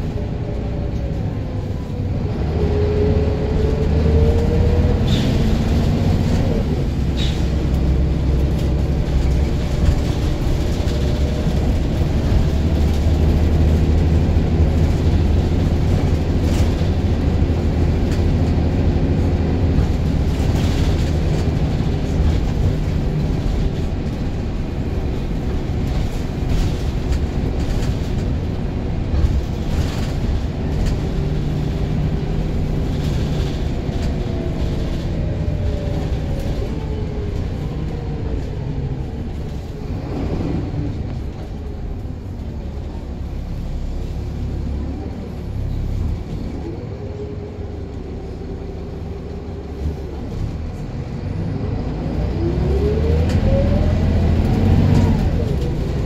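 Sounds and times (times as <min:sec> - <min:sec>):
bus engine under load: 0:00.0 - 0:56.0.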